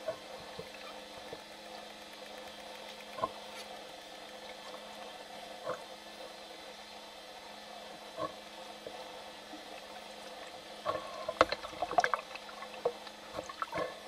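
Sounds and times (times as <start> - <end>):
underwater hiss with low hum: 0.0 - 14.0.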